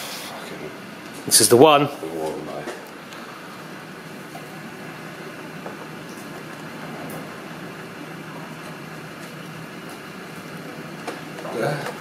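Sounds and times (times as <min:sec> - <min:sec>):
fan-like whirring: 0:00.0 - 0:12.0.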